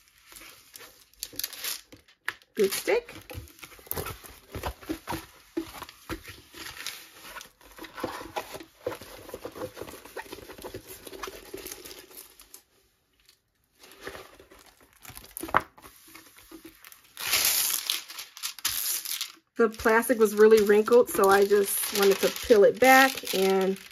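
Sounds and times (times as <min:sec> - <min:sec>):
plastic film crackle: 0:00.0 - 0:07.5, 0:10.2 - 0:23.9
paper and plastic film crinkling: 0:00.0 - 0:23.9.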